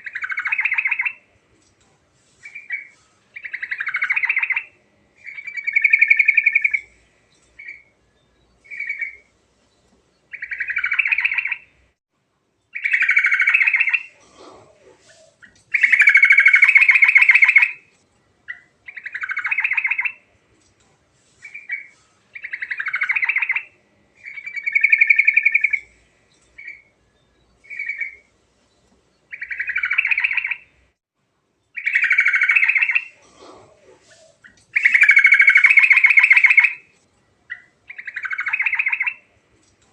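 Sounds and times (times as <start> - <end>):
bird singing trilled phrases: 0.0 - 1.2, 2.4 - 11.8, 12.7 - 14.1, 15.1 - 17.8, 18.5 - 20.2, 21.4 - 30.8, 31.7 - 33.2, 34.2 - 36.9, 37.5 - 39.3.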